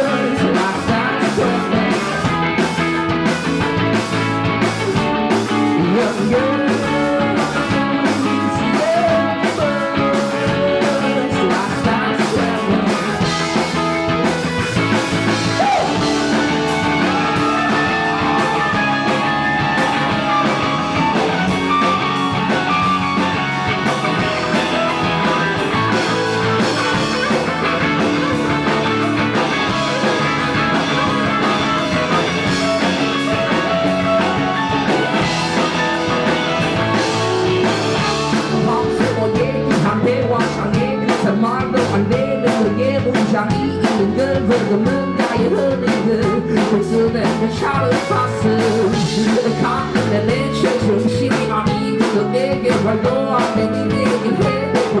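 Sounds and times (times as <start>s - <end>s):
bass guitar: 0.0s - 55.0s
drums: 0.0s - 55.0s
electric guitar lead: 0.0s - 55.0s.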